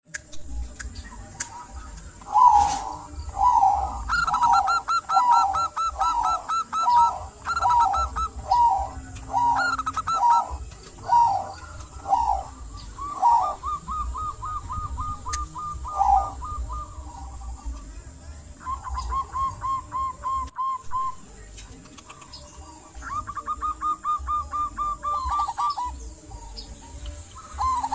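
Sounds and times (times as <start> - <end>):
doves cooing: 0.6 - 18.0, 18.6 - 27.9.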